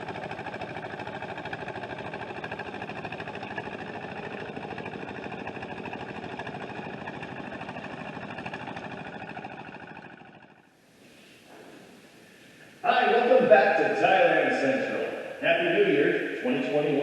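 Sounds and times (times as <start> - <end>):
motor engine running: 0.0 - 10.8, 11.5 - 17.0.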